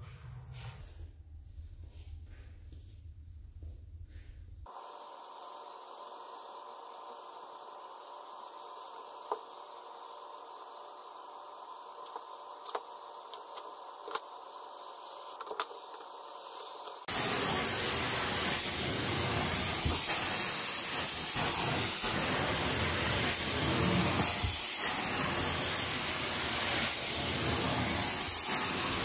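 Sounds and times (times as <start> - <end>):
carpet extraction wand hissing: 4.7 - 29.0.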